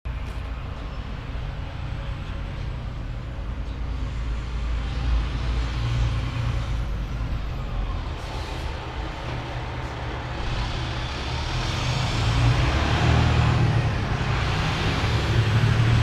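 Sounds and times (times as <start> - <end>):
vehicle engine rumbling: 0.1 - 16.0.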